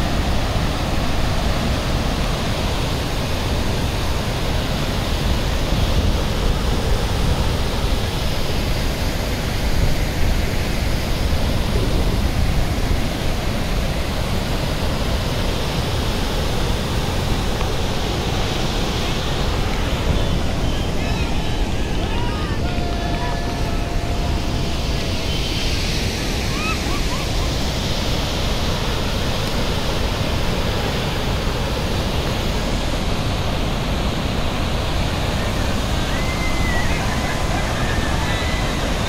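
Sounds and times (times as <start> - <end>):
river water rushing through weir: 0.0 - 39.0.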